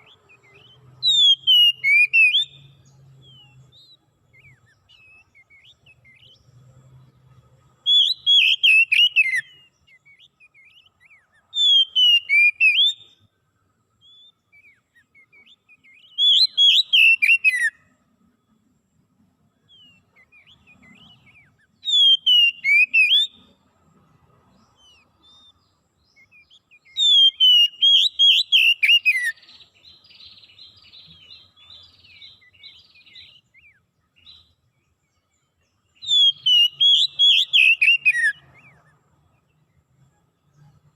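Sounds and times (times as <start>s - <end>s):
faint raspy twitter: 0.0s - 40.9s
soft bird chirps: 0.0s - 40.9s
songbird singing chirped phrases: 0.0s - 40.9s.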